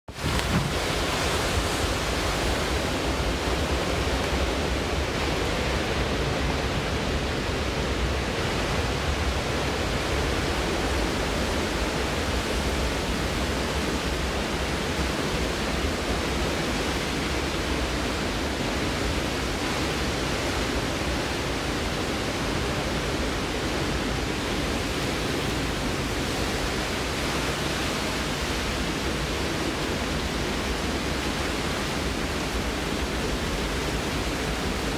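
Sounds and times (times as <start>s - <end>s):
driving rain: 0.1s - 34.9s
hurricane wind: 0.1s - 34.9s.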